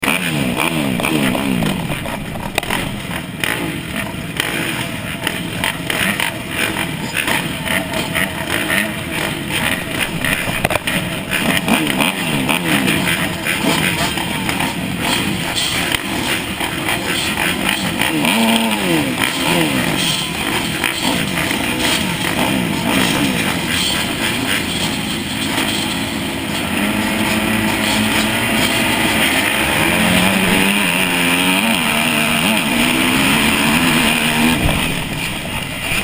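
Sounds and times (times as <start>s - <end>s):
dirt bike engine revving: 0.0s - 36.0s
steady rushing noise: 0.6s - 17.3s, 17.9s - 36.0s.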